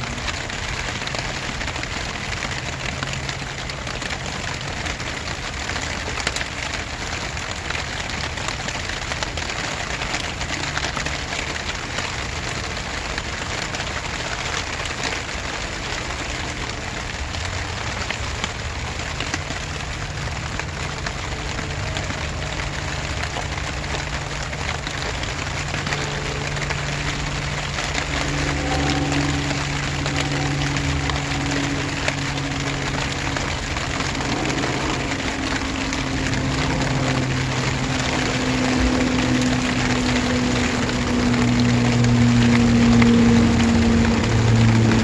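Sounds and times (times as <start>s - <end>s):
low steady hum: 0.0s - 45.0s
rain drops pattering: 0.0s - 45.0s.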